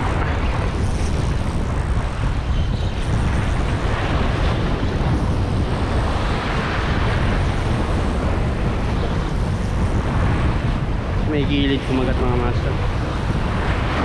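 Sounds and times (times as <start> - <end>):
sea surf on rocks: 0.0 - 14.0
wind buffeting microphone: 0.0 - 14.0.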